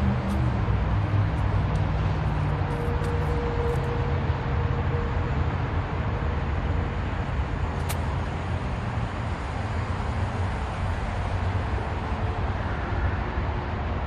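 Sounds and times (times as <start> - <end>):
low vehicle rumble: 0.0 - 12.4.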